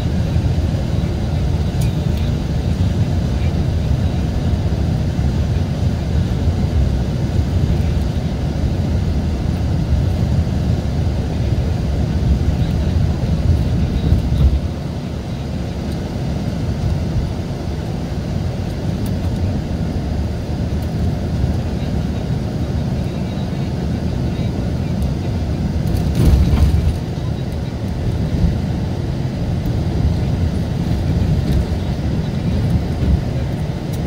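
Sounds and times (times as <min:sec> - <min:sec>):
diesel engine rumbling: 0:00.0 - 0:34.0.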